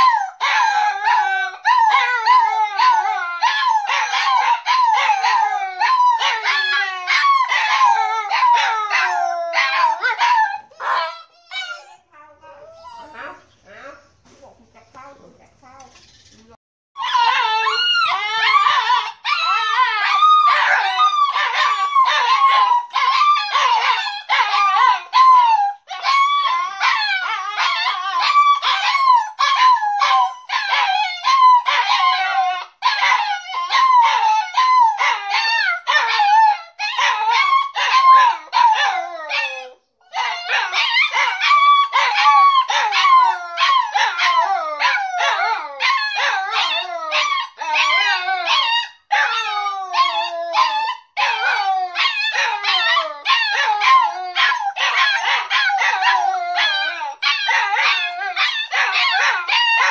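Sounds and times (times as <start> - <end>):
puppies whining and crying: 0.0 - 13.6, 17.0 - 59.9.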